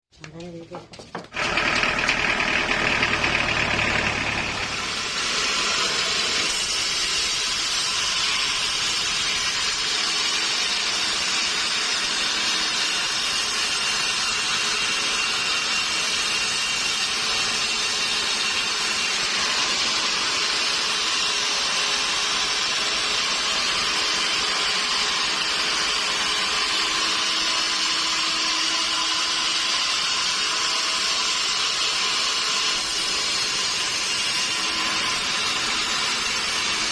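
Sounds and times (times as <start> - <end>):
sawmill saw cutting log: 1.3 - 36.9.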